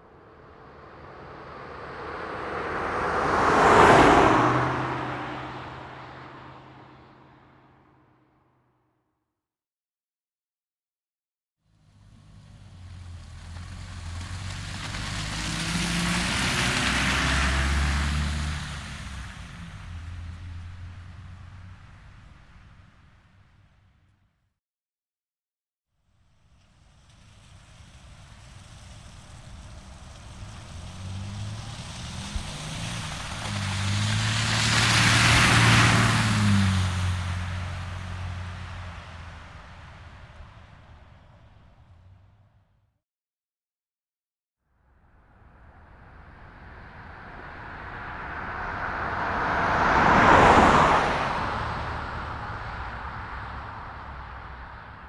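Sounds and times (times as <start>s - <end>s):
car driving past: 0.0s - 8.4s, 11.7s - 23.9s, 26.4s - 42.6s, 44.9s - 55.0s.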